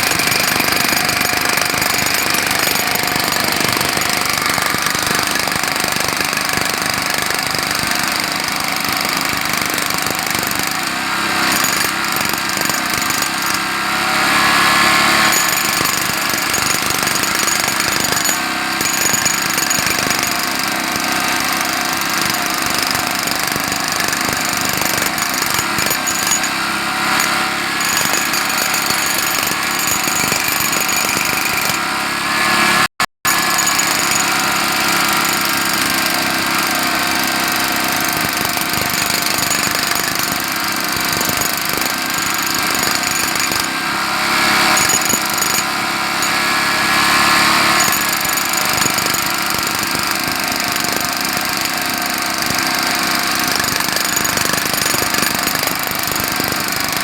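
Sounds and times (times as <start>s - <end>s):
jackhammer hammering: 0.0s - 57.0s.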